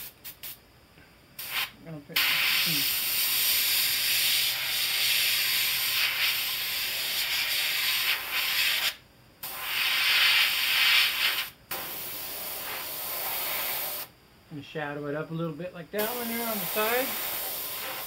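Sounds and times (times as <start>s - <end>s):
airbrush spraying hiss: 0.0s - 0.6s, 1.4s - 14.1s, 16.0s - 18.0s.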